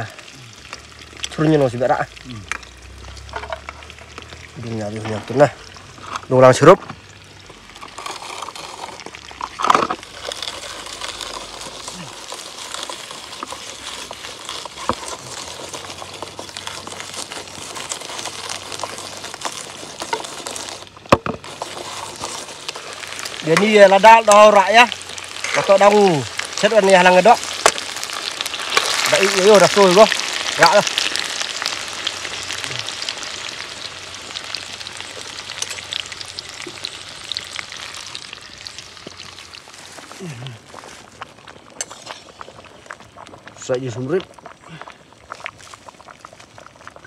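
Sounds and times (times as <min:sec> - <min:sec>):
food deep-frying in bubbling oil: 0:00.0 - 0:47.0.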